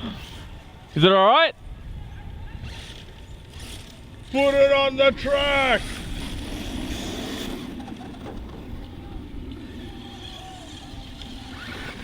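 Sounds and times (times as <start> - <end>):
faint electric motor whine: 2.2 - 12.0.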